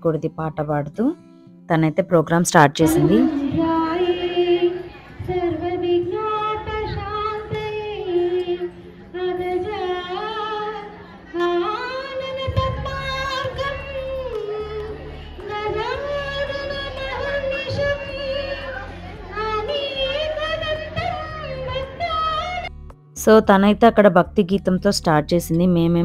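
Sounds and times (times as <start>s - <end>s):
woman singing devotional song: 1.8s - 26.0s.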